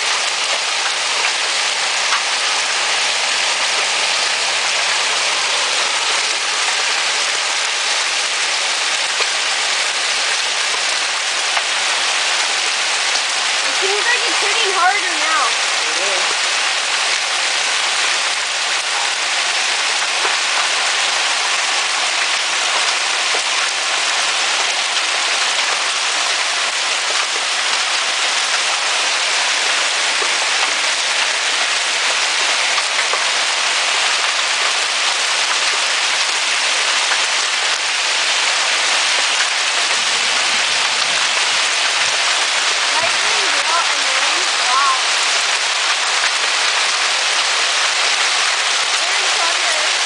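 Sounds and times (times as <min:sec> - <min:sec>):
hail and heavy rain pelting: 0:00.0 - 0:50.0.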